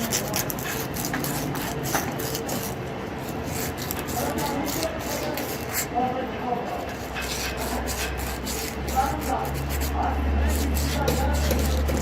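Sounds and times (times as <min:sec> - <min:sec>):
scraping and rubbing strokes: 0:00.0 - 0:06.0, 0:06.6 - 0:12.0.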